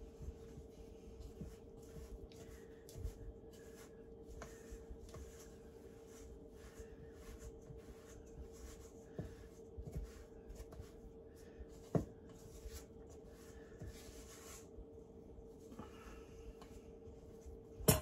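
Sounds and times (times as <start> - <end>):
spoon stirring thick dough: 0.0 - 14.8
faint steady hum: 0.0 - 18.0.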